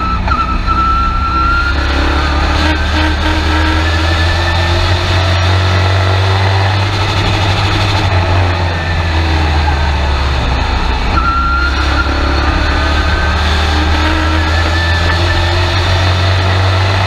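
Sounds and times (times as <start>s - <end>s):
thin whine rising in pitch: 0.0s - 17.0s
truck engine drone: 0.0s - 17.0s.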